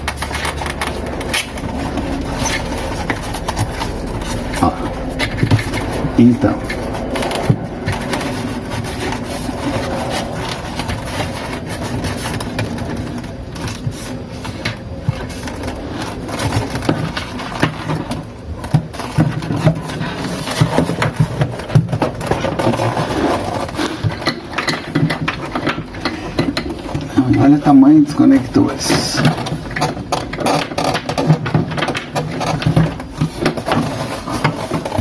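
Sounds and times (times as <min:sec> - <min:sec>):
small scrapes clicks and knocks: 0:00.0 - 0:35.0.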